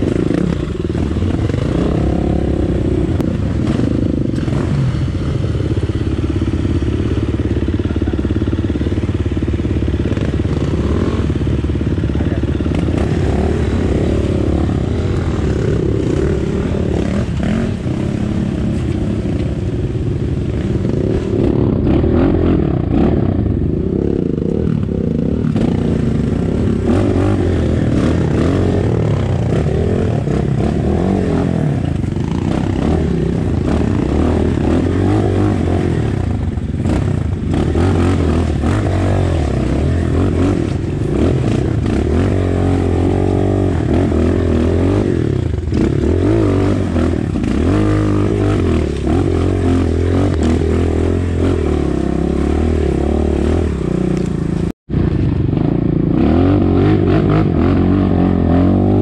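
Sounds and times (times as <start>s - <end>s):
dirt bike engine revving: 0.0s - 54.7s, 55.5s - 59.0s.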